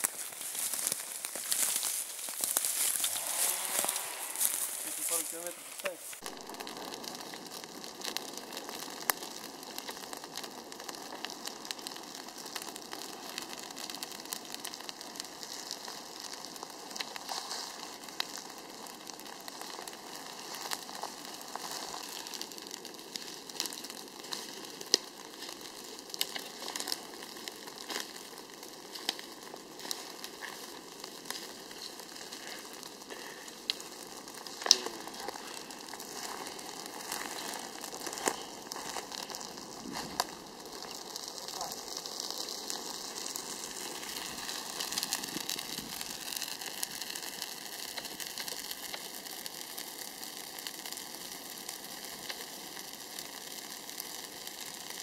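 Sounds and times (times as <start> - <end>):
dry grass crackling in fire: 0.0 - 55.0
sharp snaps of burning: 0.0 - 55.0.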